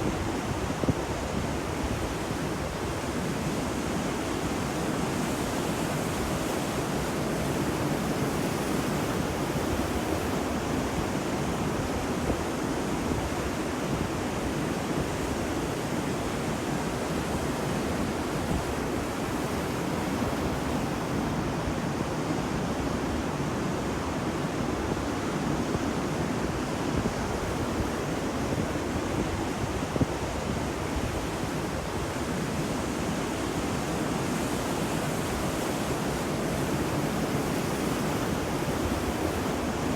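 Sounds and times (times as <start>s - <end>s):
ocean waves on a beach: 0.0s - 39.9s.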